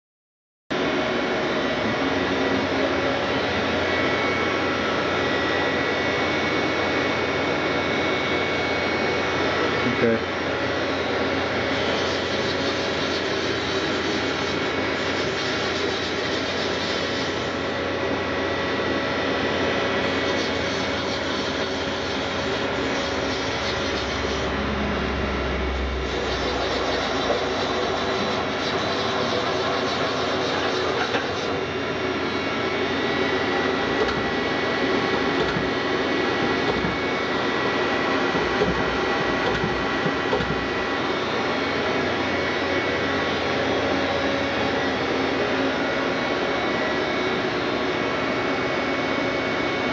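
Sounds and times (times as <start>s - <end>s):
machinery droning: 0.8s - 49.4s
steady whining tones: 0.8s - 49.9s.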